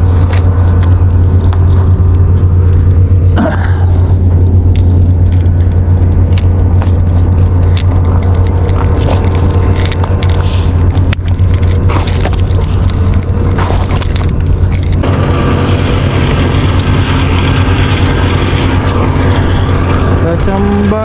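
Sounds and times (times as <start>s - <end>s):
loud low machine hum: 0.0s - 21.0s.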